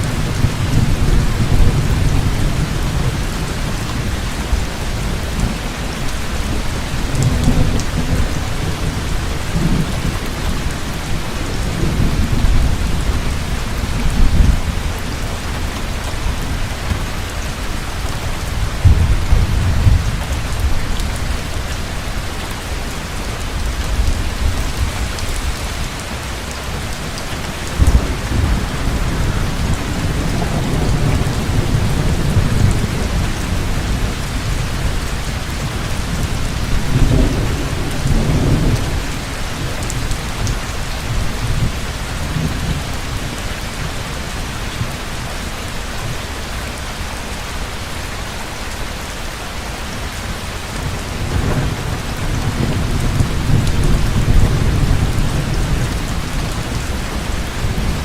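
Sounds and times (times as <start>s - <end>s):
low thunder rumbling: 0.0s - 43.4s, 50.6s - 58.0s
heavy rain pouring: 0.0s - 58.0s.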